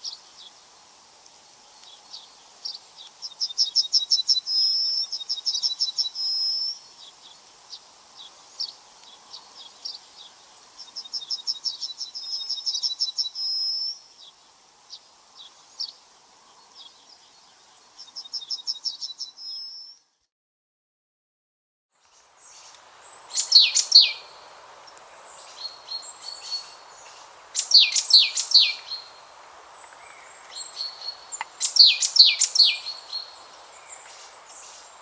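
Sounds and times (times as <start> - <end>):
songbird trilling song: 1.6 - 20.1, 22.0 - 35.0.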